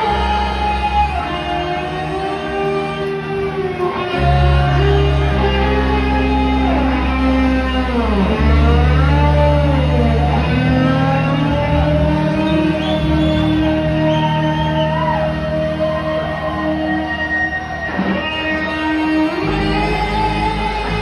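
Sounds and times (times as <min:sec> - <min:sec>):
electric guitar long sliding notes: 0:00.0 - 0:21.0
live rock band playing: 0:00.0 - 0:21.0.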